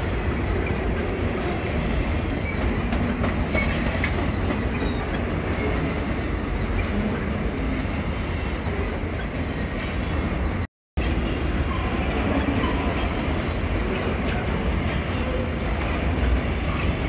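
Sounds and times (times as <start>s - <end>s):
freight train wheels rolling on rail: 0.0s - 17.0s.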